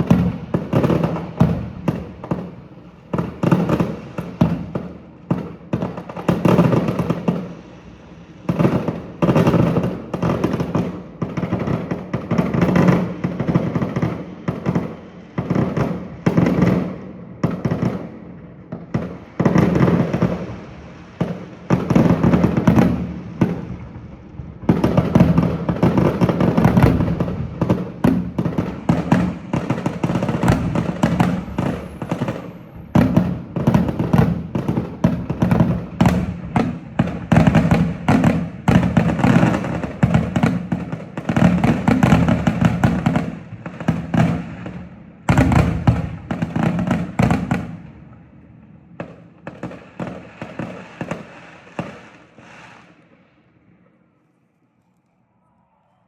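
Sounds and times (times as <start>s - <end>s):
fireworks bangs and crackling: 0.0s - 53.5s.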